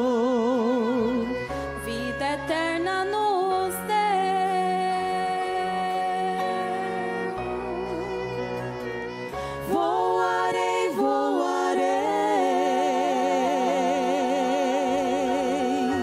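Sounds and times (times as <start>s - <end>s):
keyboard accompaniment: 0.0s - 16.0s
person singing with vibrato: 0.0s - 16.0s.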